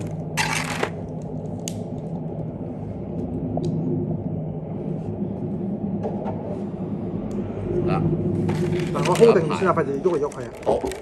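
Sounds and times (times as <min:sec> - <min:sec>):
low background rumble with hum: 0:00.0 - 0:11.0.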